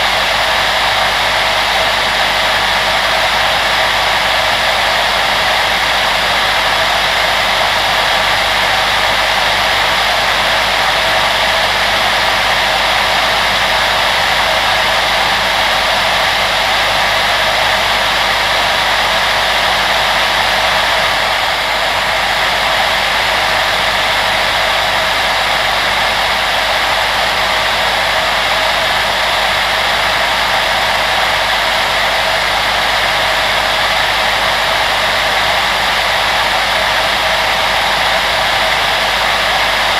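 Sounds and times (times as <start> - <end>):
appliance fan blowing air: 0.0 - 39.9.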